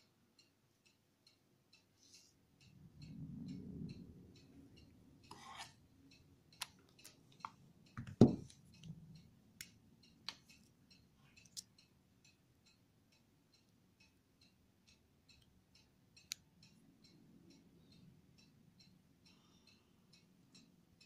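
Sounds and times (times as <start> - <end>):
steady faint ticking: 0.0 - 21.0.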